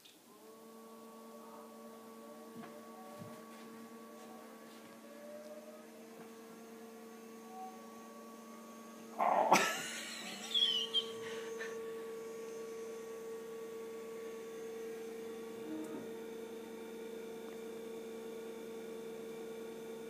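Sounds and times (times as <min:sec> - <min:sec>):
computer electrical hum: 0:00.2 - 0:20.0.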